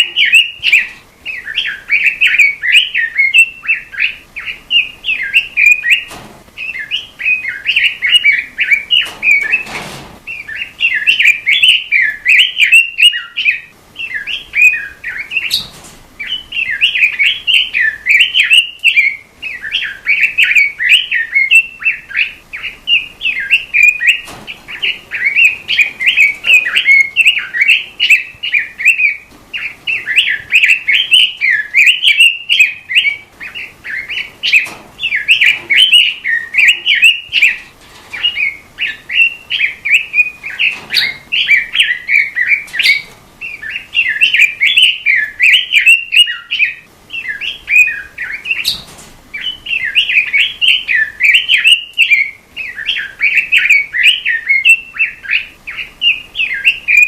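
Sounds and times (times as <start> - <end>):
songbird warbling: 0.0 - 9.7, 10.3 - 57.0.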